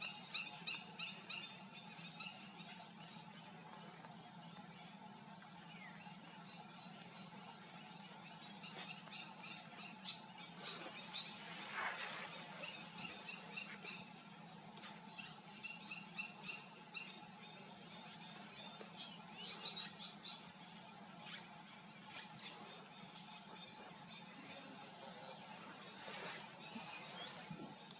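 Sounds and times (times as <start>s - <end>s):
birds chirping: 0.0s - 27.9s
low hum: 0.0s - 27.9s.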